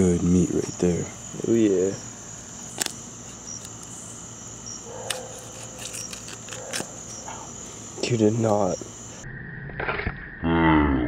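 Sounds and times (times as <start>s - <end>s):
crickets chirring: 0.0s - 10.4s.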